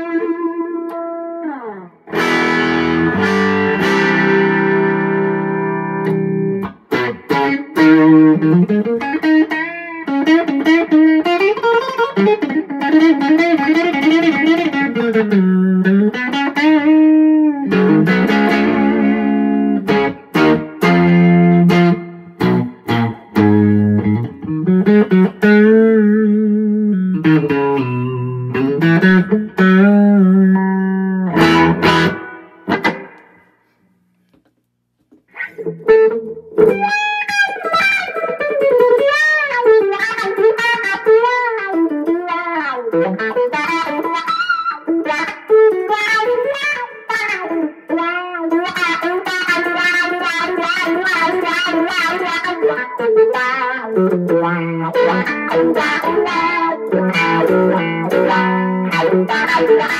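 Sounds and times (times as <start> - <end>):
electric guitar playing: 0.0 - 33.8, 35.0 - 59.9.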